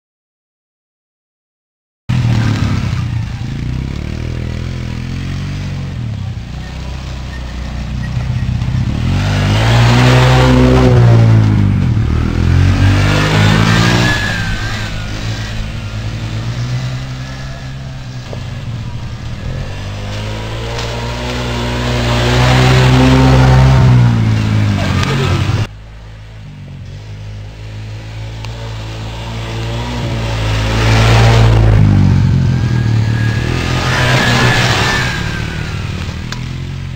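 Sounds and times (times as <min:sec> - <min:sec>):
small atv engine revving: 0:02.1 - 0:25.7, 0:26.9 - 0:36.9.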